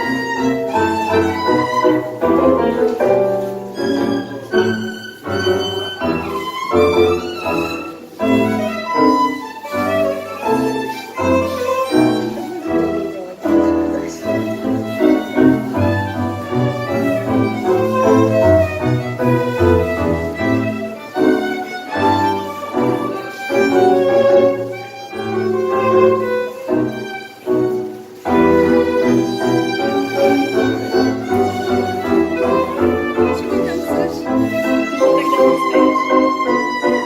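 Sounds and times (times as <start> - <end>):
bowed strings: 0.0 - 37.0
violin melody: 0.0 - 37.0.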